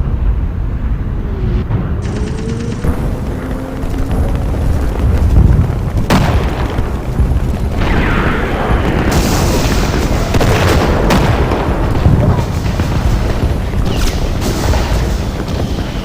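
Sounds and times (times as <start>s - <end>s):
explosion booms: 0.0s - 16.0s
heavy low rumble: 0.0s - 16.0s
sharp blasts: 0.0s - 16.0s.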